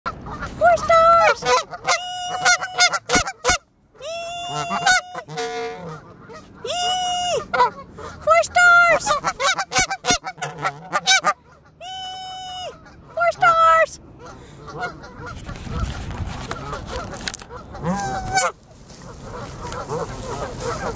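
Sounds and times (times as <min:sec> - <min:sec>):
geese honking: 0:00.1 - 0:20.9.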